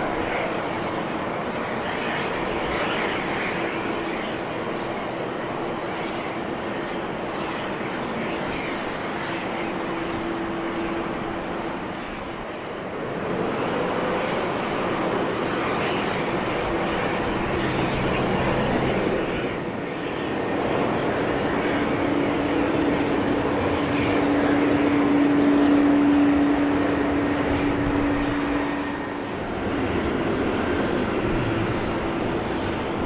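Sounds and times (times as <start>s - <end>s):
jet engines taxiing: 0.0s - 33.0s
steady low engine drone: 0.0s - 33.0s.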